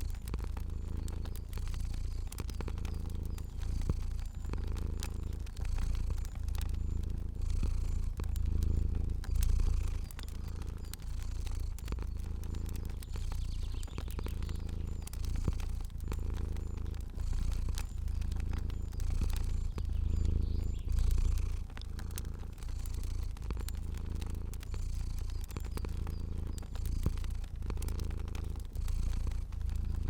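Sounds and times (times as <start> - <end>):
cat purring: 0.0 - 30.0
fire crackling: 0.0 - 30.0.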